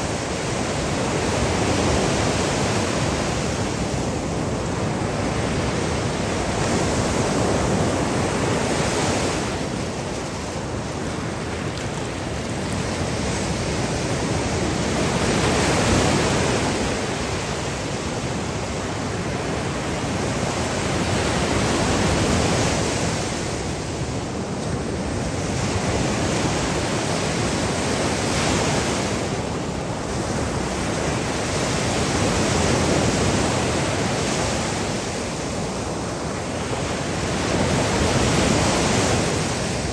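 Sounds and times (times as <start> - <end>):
surf breaking on beach: 0.0 - 39.9.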